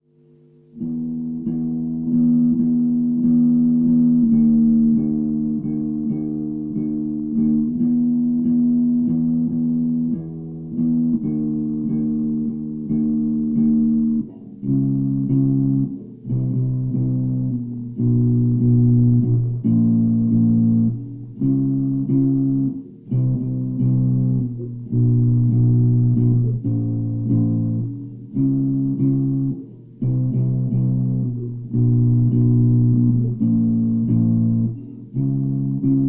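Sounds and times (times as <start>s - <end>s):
electric bass plucked riff: 0.0s - 36.0s.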